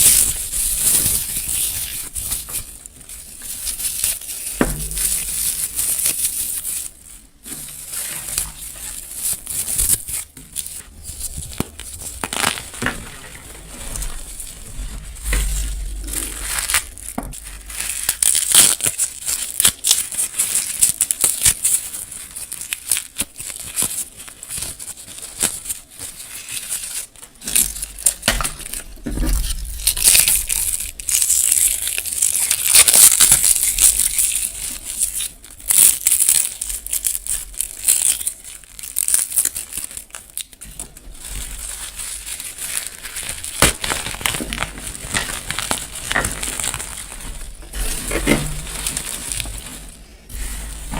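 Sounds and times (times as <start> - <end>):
crackles and crunches of crushing: 0.0 - 50.9.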